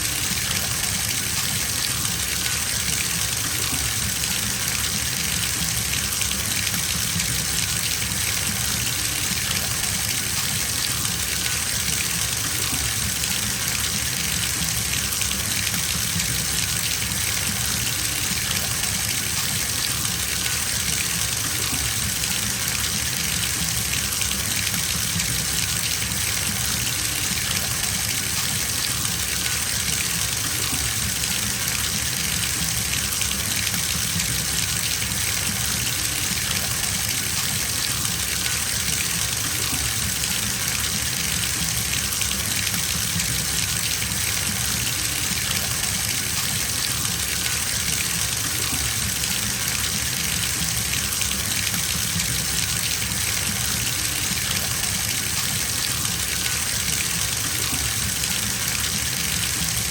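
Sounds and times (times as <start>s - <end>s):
water gushing into bathtub: 0.0s - 59.9s.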